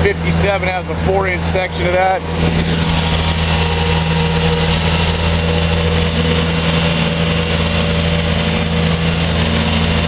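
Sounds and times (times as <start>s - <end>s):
diesel engine running steadily: 0.0s - 10.0s.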